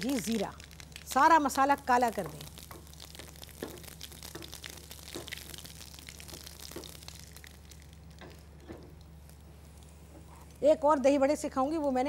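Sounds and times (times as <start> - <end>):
oil popping: 0.0 - 10.6
spices sizzling in hot oil: 0.0 - 10.6.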